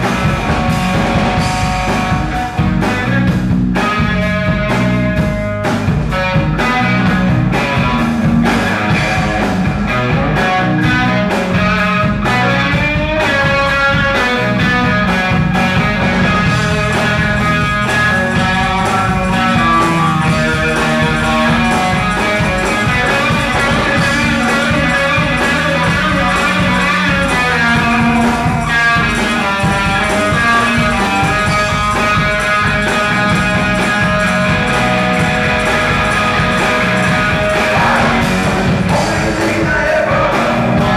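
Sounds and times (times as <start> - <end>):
bass guitar: 0.0 - 40.9
drums: 0.0 - 40.9
electric guitar lead: 0.0 - 40.9.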